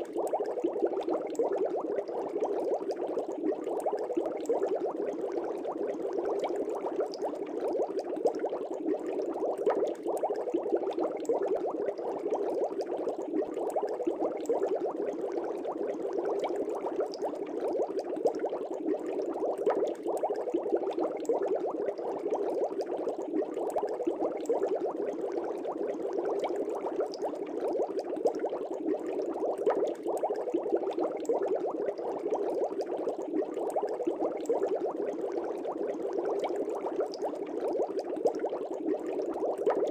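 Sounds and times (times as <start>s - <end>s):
air bubbling in aquarium water: 0.0s - 39.9s.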